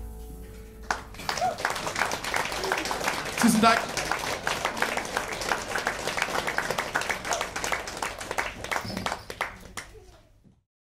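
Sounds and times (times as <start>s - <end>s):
audience applauding: 0.8s - 10.3s.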